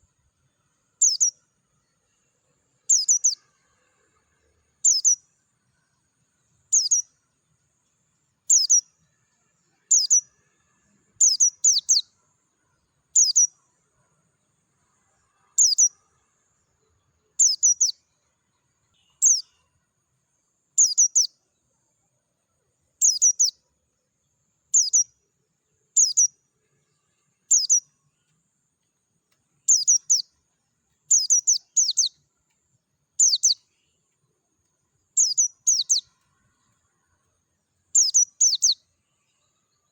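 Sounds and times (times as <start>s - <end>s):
bird chirping: 0.0s - 4.1s, 4.7s - 39.9s.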